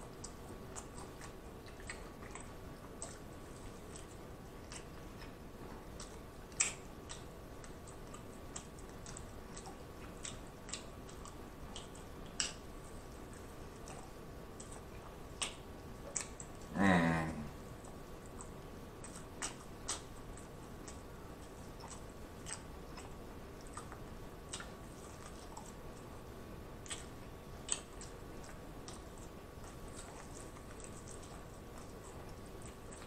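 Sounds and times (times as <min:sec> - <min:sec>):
quiet chewing: 0:00.0 - 0:33.0
wet mouth clicks and smacks: 0:00.2 - 0:16.7, 0:17.8 - 0:26.0, 0:26.8 - 0:33.0.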